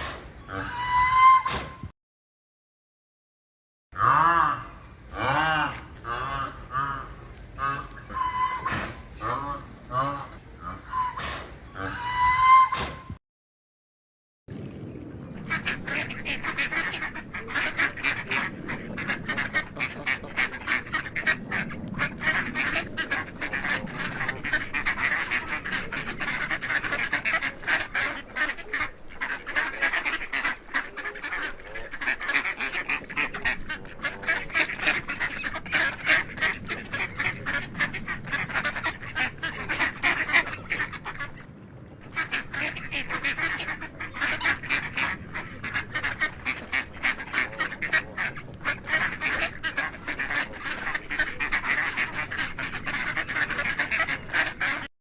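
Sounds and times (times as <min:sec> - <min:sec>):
ducks calling: 0:04.0 - 0:13.0, 0:14.6 - 0:54.9.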